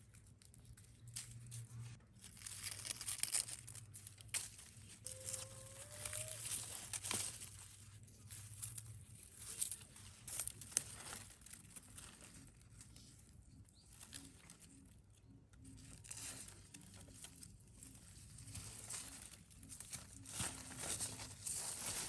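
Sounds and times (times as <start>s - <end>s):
faint crackling and rustling: 0.0s - 22.0s.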